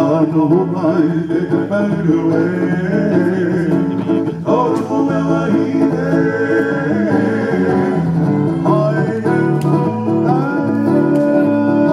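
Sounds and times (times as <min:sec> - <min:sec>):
person singing: 0:00.0 - 0:11.9
plucked strings: 0:00.0 - 0:11.9.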